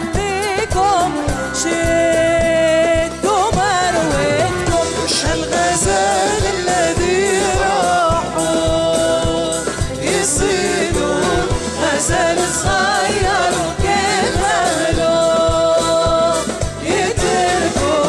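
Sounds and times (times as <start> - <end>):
hand drums: 0.0 - 18.0
keyboard: 0.0 - 18.0
woman singing: 0.0 - 18.0.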